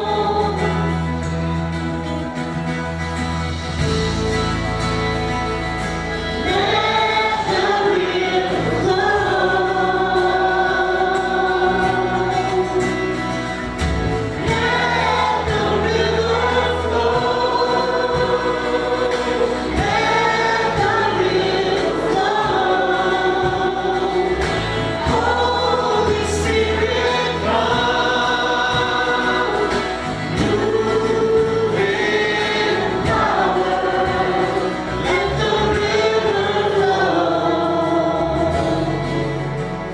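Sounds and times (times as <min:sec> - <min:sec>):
group of voices singing: 0:00.0 - 0:02.2, 0:05.7 - 0:39.9
band with bass: 0:00.0 - 0:39.9.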